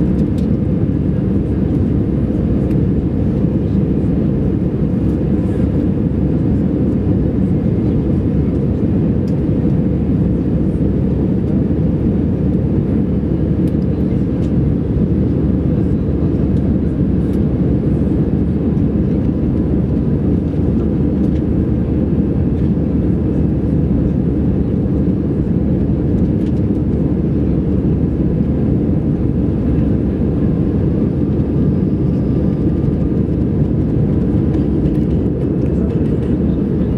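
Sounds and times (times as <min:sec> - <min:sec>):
jet engine cabin drone: 0:00.0 - 0:36.9.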